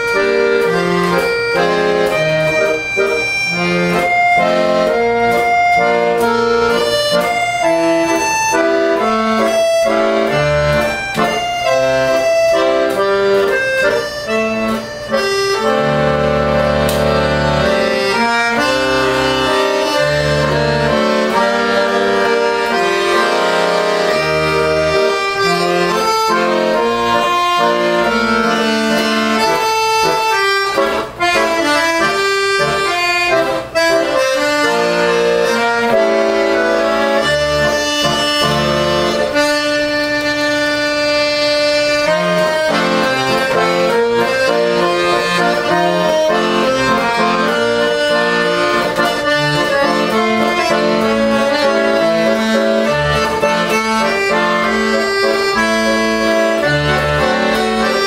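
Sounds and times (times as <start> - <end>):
accordion playing: 0.0 - 58.0.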